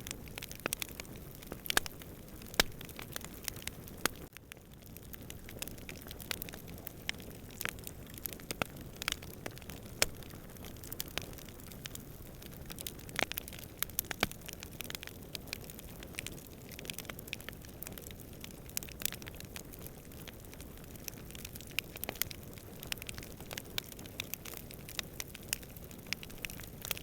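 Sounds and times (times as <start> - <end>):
sharp pops and snaps of fire: 0.0 - 27.0
wood fire crackling: 0.0 - 27.0.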